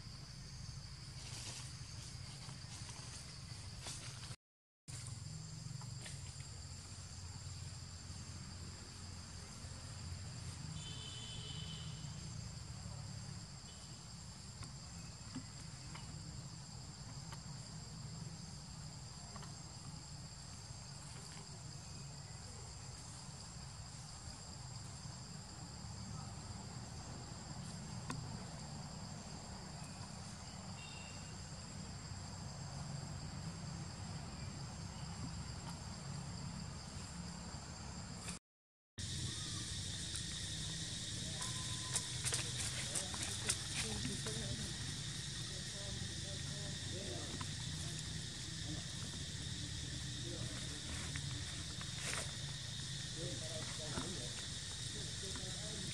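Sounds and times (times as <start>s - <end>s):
insect chorus buzzing: 0.0s - 38.4s, 39.0s - 55.9s.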